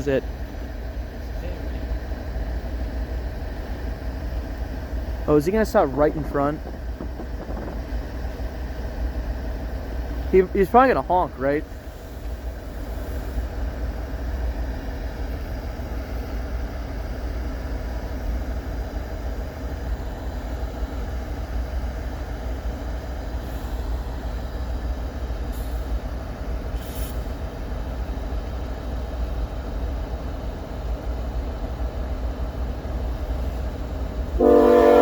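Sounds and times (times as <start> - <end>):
locomotive engine rumble: 0.0 - 35.0.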